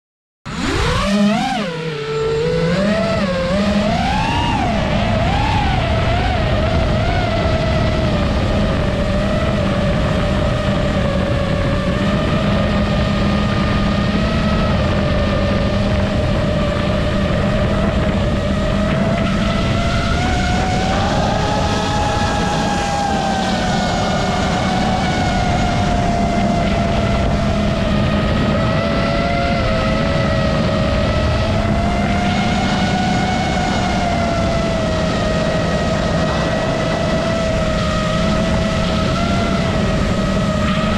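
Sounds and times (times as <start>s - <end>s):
quadcopter propellers whining: 0.5s - 40.9s.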